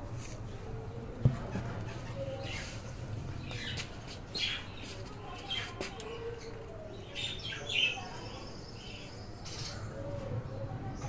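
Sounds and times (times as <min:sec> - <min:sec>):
small birds chirping: 0:01.6 - 0:11.0.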